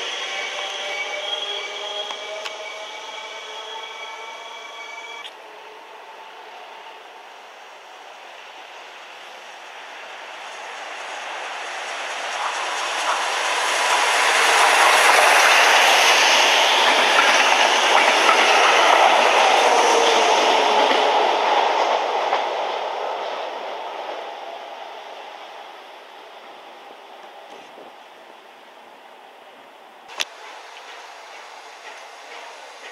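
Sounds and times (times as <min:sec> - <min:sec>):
train passing on rails: 0:00.0 - 0:32.9.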